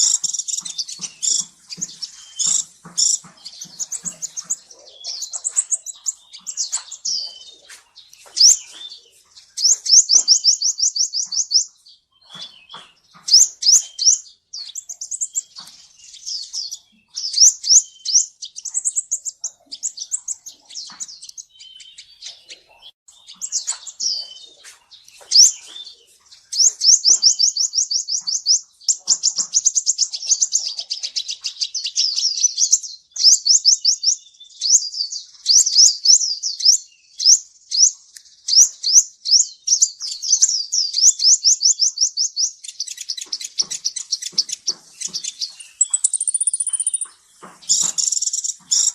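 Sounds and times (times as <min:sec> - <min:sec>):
sunbird singing fast trills: 0:00.0 - 0:48.9.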